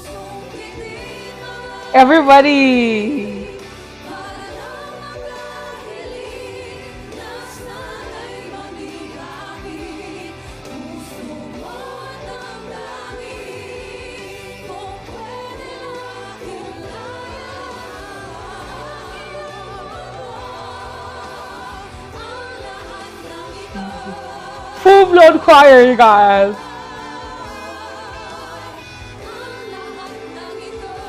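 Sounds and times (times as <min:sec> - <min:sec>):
choir singing: 0:00.0 - 0:31.0
women singing pop ballad: 0:00.0 - 0:31.0.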